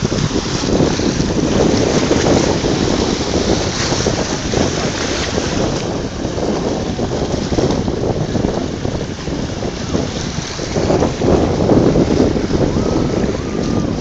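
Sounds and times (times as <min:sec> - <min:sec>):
sea noise: 0:00.0 - 0:14.0
wind buffeting microphone: 0:00.0 - 0:14.0.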